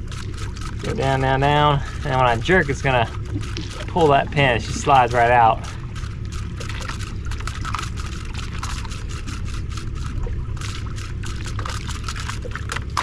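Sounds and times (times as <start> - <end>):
steady low rumble: 0.0 - 13.0
water splashing against boat hull: 0.0 - 13.0.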